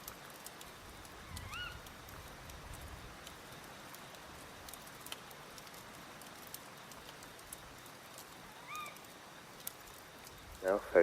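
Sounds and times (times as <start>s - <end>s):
flowing water: 0.0s - 11.0s
wind: 0.0s - 11.0s
wood fire crackling: 0.0s - 11.0s.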